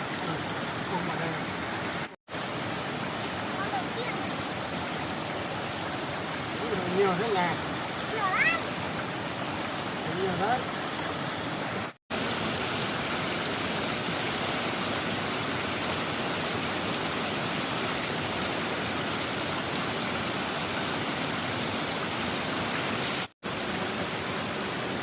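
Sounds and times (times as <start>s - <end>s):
flowing stream water: 0.0s - 25.0s.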